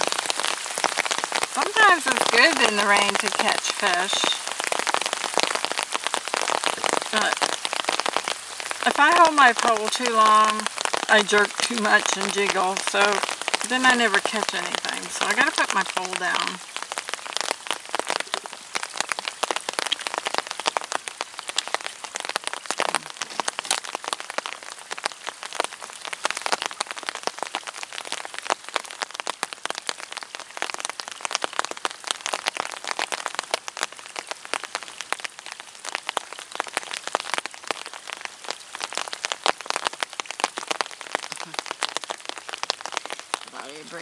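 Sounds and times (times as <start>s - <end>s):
rain pattering on an umbrella: 0.0s - 44.0s.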